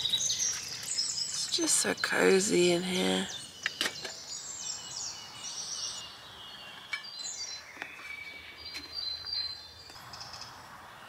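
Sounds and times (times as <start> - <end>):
birds singing and chirping: 0.0 - 11.0.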